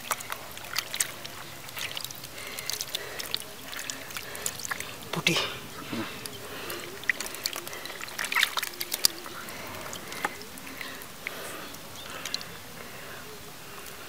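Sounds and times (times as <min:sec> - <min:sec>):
hands splashing in muddy water: 0:00.0 - 0:12.6.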